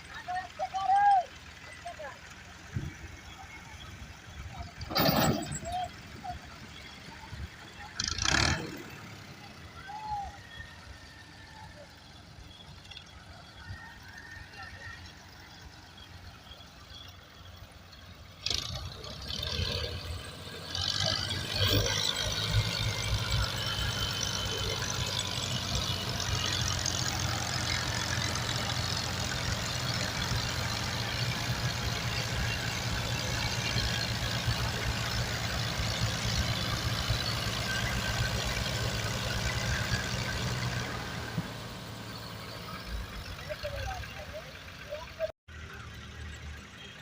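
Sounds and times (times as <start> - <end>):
tractor diesel engine: 0.0 - 47.0.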